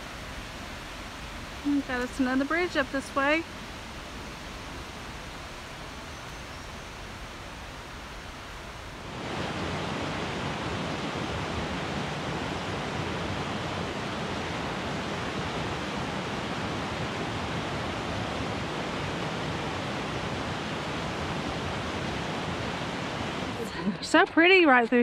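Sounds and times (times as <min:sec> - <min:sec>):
stream rushing over rocks: 0:00.0 - 0:23.8.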